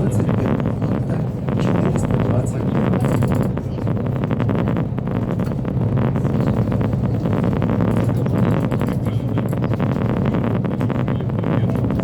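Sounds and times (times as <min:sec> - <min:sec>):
diesel engines droning: 0:00.0 - 0:12.0
wind buffeting microphone: 0:00.0 - 0:12.0.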